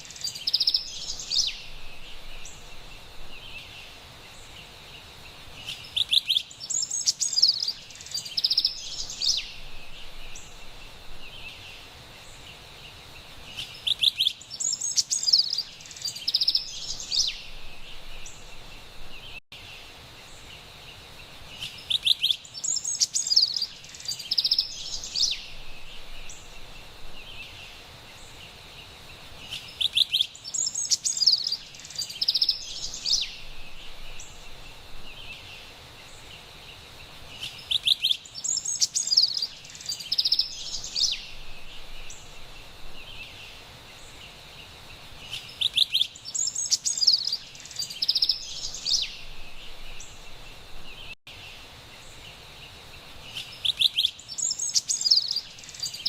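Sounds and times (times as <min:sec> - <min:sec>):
wren singing: 0:00.0 - 0:04.6, 0:05.5 - 0:12.5, 0:13.5 - 0:19.4, 0:21.5 - 0:28.4, 0:29.3 - 0:36.4, 0:37.3 - 0:51.2, 0:53.2 - 0:56.0
faint background hiss: 0:00.0 - 0:56.0.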